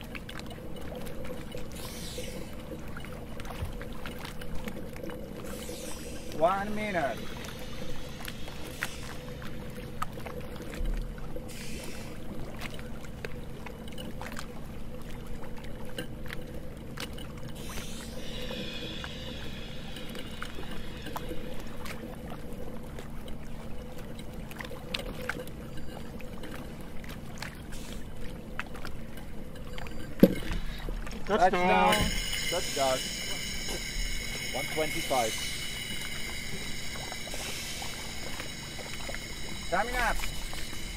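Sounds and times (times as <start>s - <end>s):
low hum: 0.0s - 40.9s
water and boat ambience: 0.0s - 40.9s.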